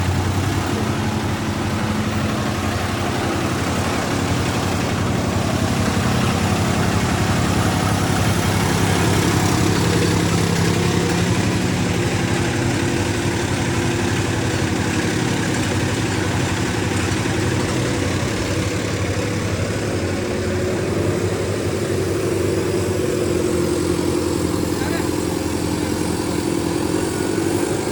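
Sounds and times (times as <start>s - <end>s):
tractor engines running: 0.0s - 27.9s.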